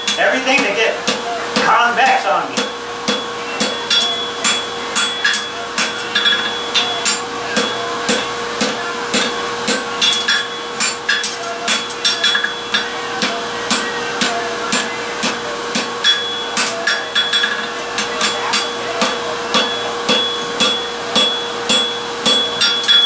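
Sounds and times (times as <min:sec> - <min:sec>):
hammer striking steel on anvil: 0:00.0 - 0:23.0
steady hum: 0:00.0 - 0:23.0.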